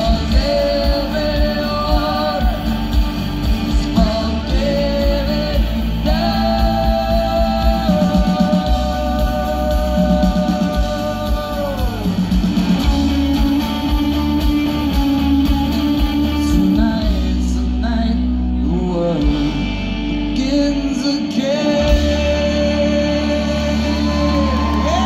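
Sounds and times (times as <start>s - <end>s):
drums: 0.0s - 25.0s
guitars: 0.0s - 25.0s
heavy bass: 0.0s - 25.0s
man singing long notes: 0.0s - 25.0s.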